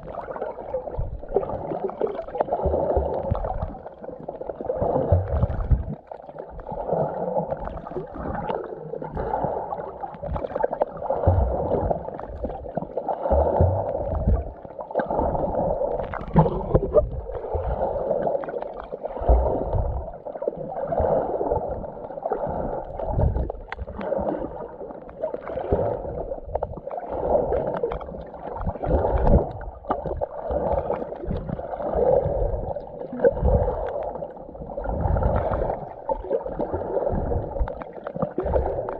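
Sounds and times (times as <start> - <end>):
muffled water sloshing and gurgling: 0.0 - 38.9.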